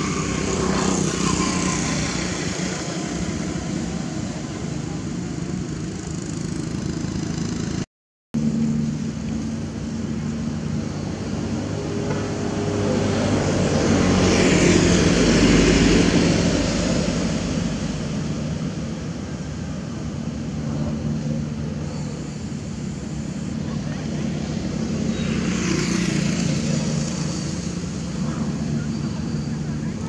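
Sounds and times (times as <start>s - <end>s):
vehicle engine passing by: 0.0s - 7.8s, 8.4s - 30.0s.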